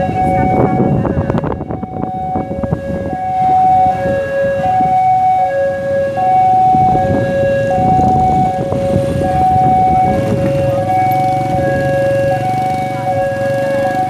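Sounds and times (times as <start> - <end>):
level crossing two-tone alarm: 0.0 - 14.0
street traffic noise: 0.0 - 14.0.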